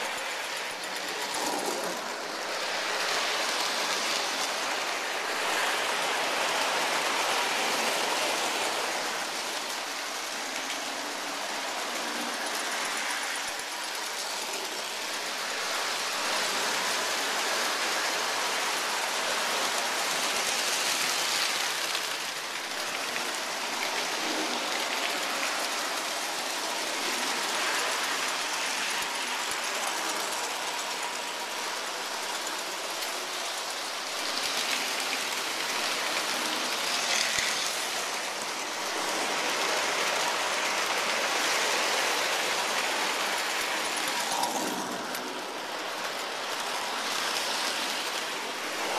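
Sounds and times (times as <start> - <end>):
model trains clattering on track: 0.0 - 48.9.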